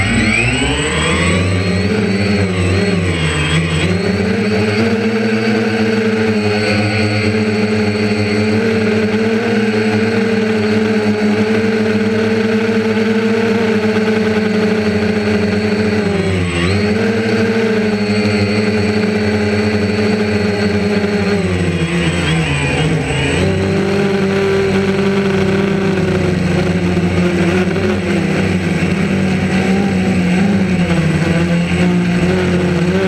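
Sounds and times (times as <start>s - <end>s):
drone propellers buzzing: 0.0s - 33.0s.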